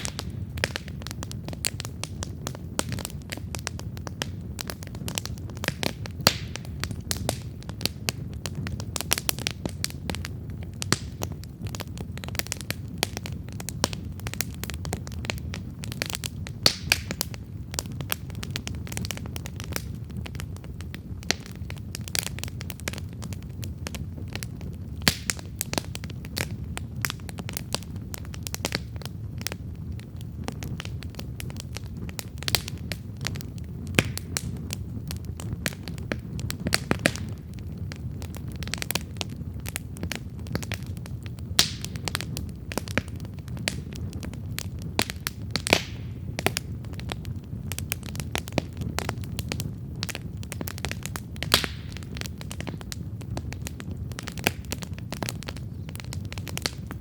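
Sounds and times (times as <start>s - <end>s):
campfire crackling and popping: 0.0s - 57.0s
fire flames rumbling: 0.0s - 57.0s.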